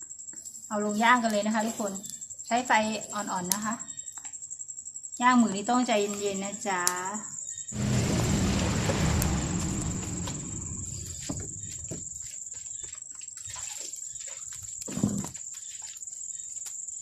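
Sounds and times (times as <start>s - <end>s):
crickets chirping: 0.0s - 5.8s, 6.6s - 14.2s, 15.5s - 17.0s.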